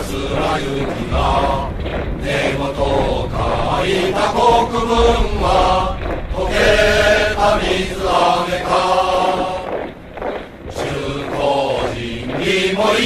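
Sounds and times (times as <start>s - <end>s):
men singing in unison: 0.0s - 9.7s, 10.7s - 13.0s.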